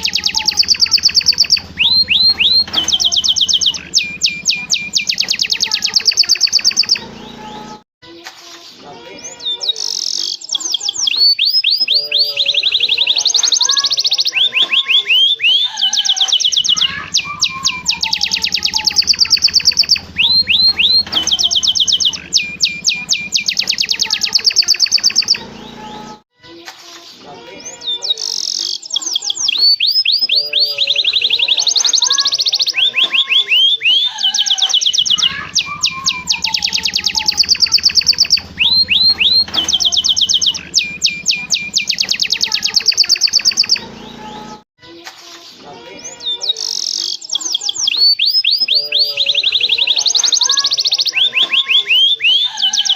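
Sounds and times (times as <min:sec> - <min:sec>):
canary singing trills and whistles: 0:00.0 - 0:07.8, 0:09.1 - 0:26.2, 0:27.6 - 0:44.6, 0:45.9 - 0:52.9.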